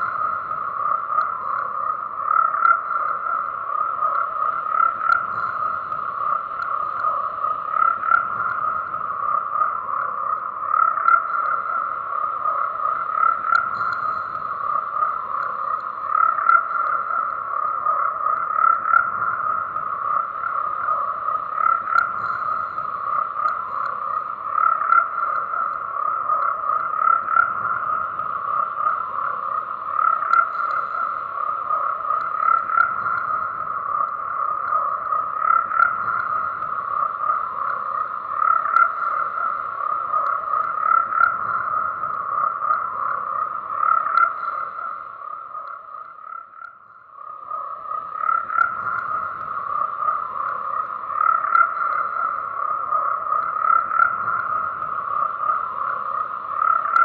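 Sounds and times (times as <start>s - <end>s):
chorus of frogs calling: 0.0s - 57.0s.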